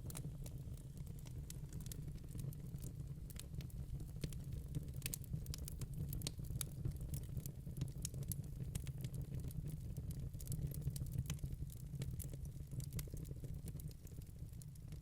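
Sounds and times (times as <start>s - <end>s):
low rumble of fire: 0.0s - 15.0s.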